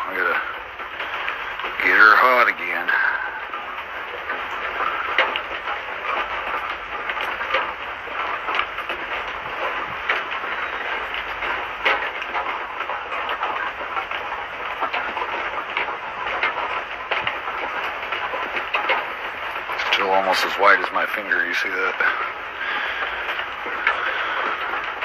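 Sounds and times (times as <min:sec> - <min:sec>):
fire crackling and popping: 0:00.0 - 0:25.0
forge fire hissing: 0:00.0 - 0:25.0.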